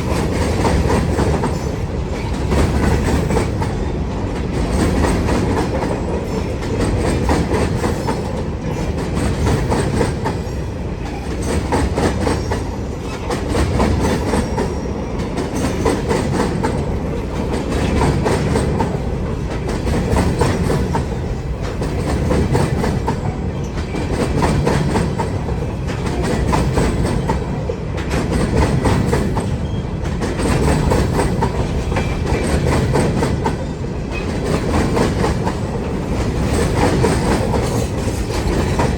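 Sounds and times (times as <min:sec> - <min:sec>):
continuous train rumble: 0:00.0 - 0:38.9
train wheels clicking over rail joints: 0:00.0 - 0:38.9.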